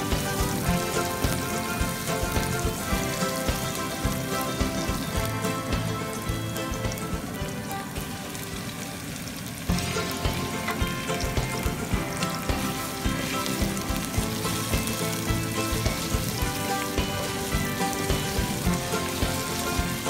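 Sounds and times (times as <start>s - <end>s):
background music: 0.0s - 20.0s
meat sizzling in oil: 0.0s - 20.0s.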